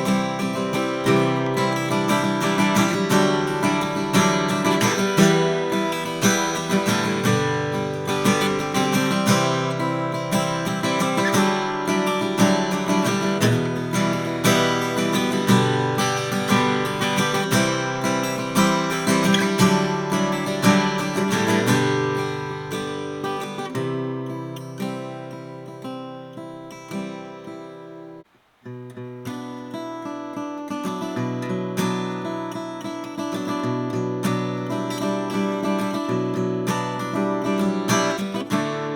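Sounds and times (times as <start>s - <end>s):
acoustic guitar strummed: 0.0s - 38.9s.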